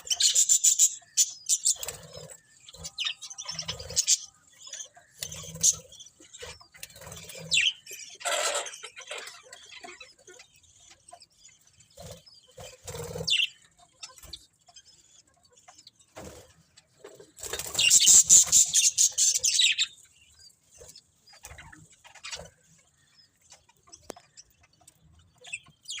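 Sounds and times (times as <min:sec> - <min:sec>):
budgerigars chirping and chattering: 0:00.0 - 0:26.0.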